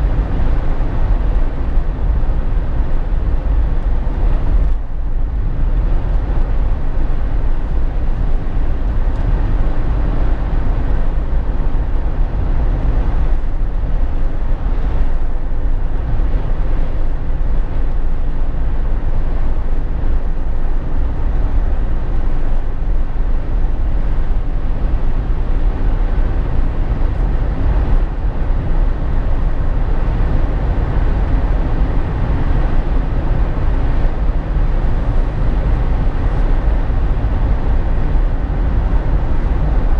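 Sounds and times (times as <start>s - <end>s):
car interior road and wind noise: 0.0s - 39.9s.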